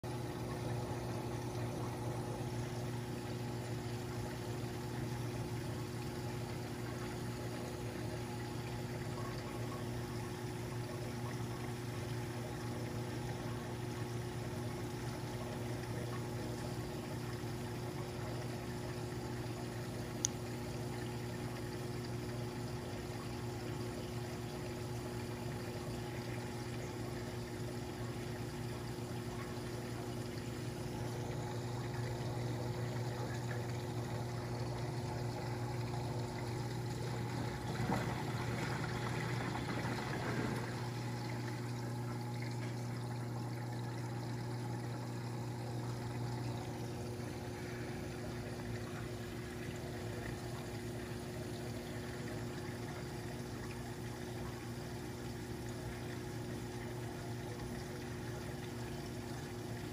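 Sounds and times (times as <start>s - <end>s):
low electric hum: 0.0s - 59.9s
water pouring and trickling: 0.0s - 59.9s.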